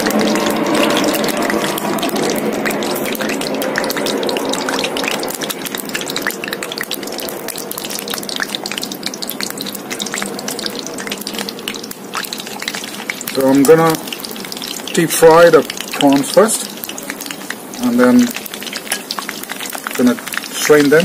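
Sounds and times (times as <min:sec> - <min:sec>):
prawns deep frying in oil: 0:00.0 - 0:21.0.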